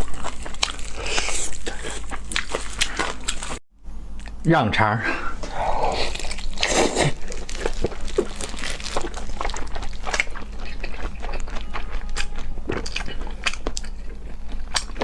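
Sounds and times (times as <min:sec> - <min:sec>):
person chewing food: 0:00.0 - 0:03.6, 0:05.7 - 0:15.0.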